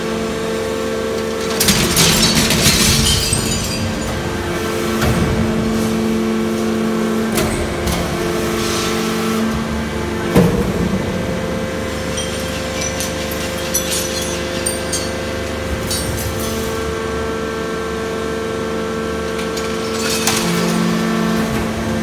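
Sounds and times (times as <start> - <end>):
hydraulic unit humming: 0.1 - 22.0.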